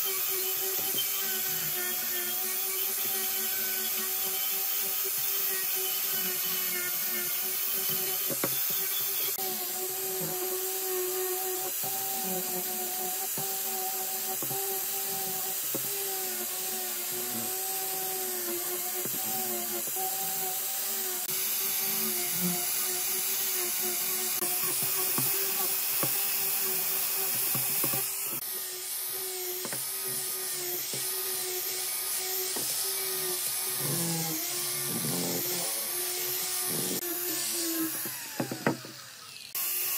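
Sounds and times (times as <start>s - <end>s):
angle grinder high whine: 0.0s - 39.9s.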